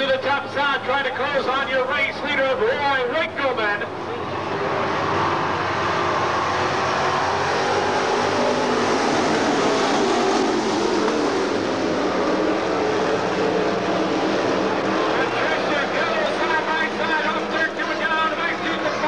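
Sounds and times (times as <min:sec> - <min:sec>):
stock car engines racing: 0:00.0 - 0:19.0.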